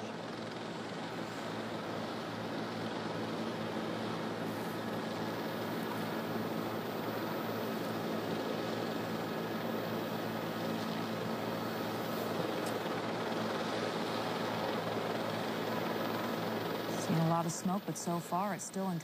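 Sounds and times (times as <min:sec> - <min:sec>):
constant low hum: 0:00.0 - 0:19.0
helicopter engine and rotor drone: 0:00.0 - 0:19.0.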